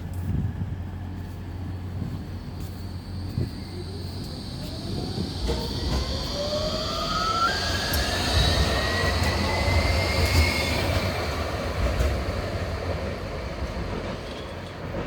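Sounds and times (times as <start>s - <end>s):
wheels rumbling on track: 0.0s - 15.0s
traction drive whine: 1.7s - 15.0s.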